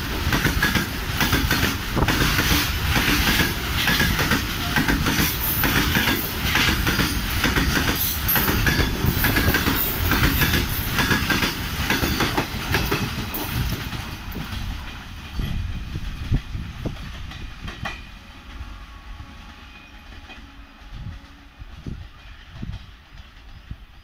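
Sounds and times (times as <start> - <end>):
freight train passing: 0.0 - 24.0.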